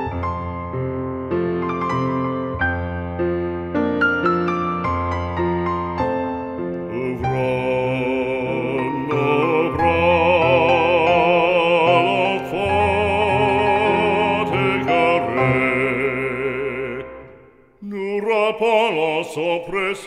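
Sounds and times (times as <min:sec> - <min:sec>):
slow hymn music: 0:00.0 - 0:20.0.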